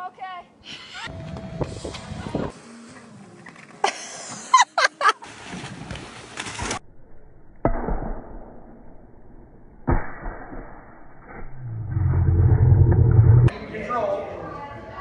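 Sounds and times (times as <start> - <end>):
dull outdoor background sound: 0.0 - 15.0.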